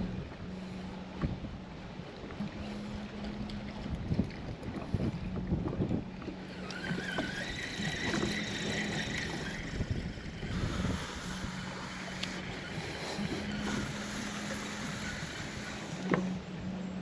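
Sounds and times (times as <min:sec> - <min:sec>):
steady low hum: 0:00.0 - 0:17.0
thin rising whine: 0:00.0 - 0:17.0
water around boat: 0:00.0 - 0:17.0
wind buffeting microphone: 0:00.0 - 0:17.0.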